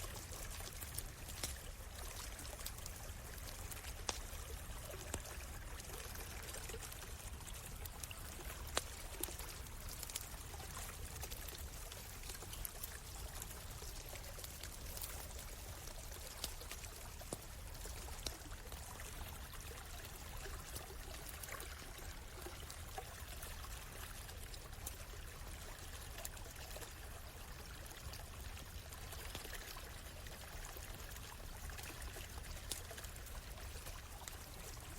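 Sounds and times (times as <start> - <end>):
campfire crackling and popping: 0.0 - 34.9
stream trickling: 0.0 - 34.9.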